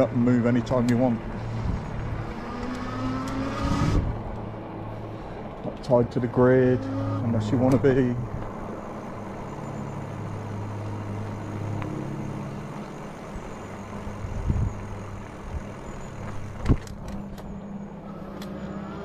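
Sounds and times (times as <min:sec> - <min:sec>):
electric bike motor hum: 0:00.0 - 0:05.6, 0:06.3 - 0:19.0
tyre and road noise: 0:00.0 - 0:19.0
motor whine: 0:01.1 - 0:05.6, 0:06.6 - 0:19.0.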